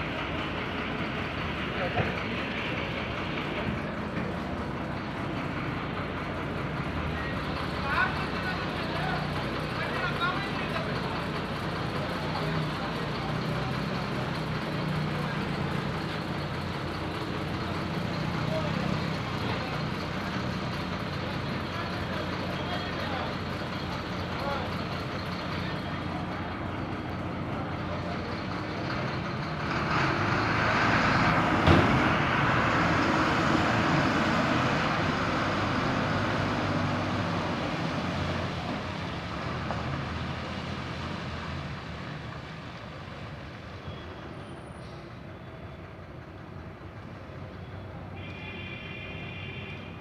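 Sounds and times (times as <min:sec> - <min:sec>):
bus engine running: 0:00.0 - 0:48.7.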